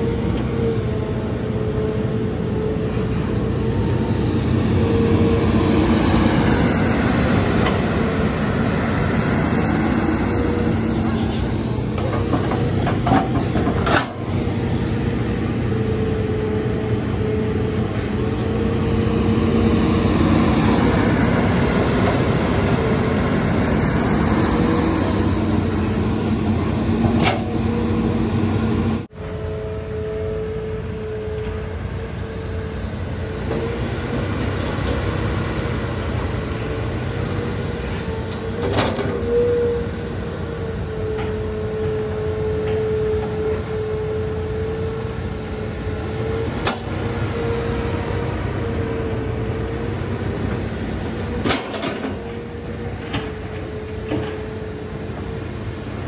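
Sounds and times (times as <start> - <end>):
excavator engine under load: 0.0 - 56.0.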